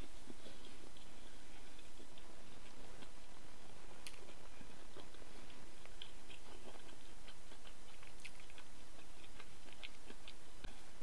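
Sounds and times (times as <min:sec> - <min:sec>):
faint steady hiss: 0:00.0 - 0:11.0
soft wet chewing clicks: 0:00.0 - 0:11.0.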